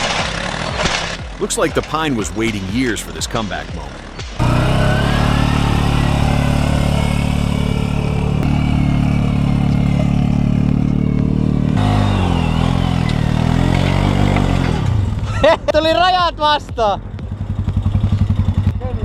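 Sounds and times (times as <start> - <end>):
atv engine running hard: 0.0 - 15.7, 16.4 - 19.0.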